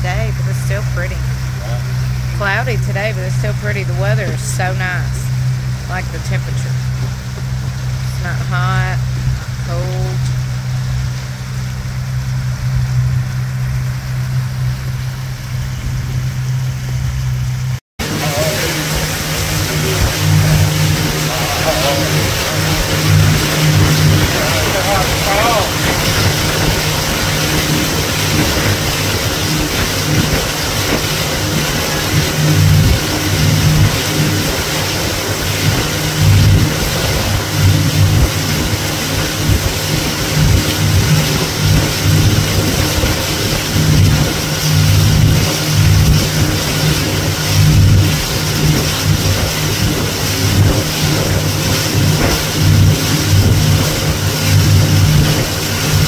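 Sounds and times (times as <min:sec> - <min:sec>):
motorboat engine running: 0:00.0 - 0:56.0
wind and water rushing: 0:00.0 - 0:56.0.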